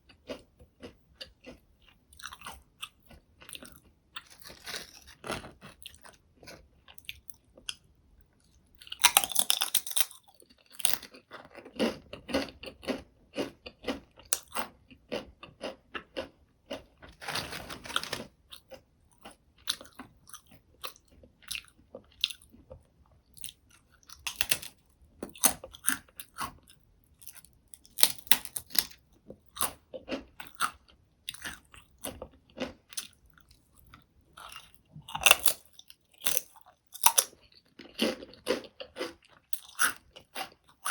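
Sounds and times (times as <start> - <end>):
crunching and chewing potato chips: 0.0 - 40.9.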